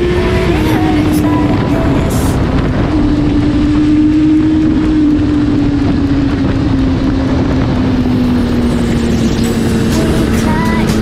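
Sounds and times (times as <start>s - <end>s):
motorcycle engine decelerating: 0.0s - 11.0s
wind rush on microphone: 0.0s - 11.0s.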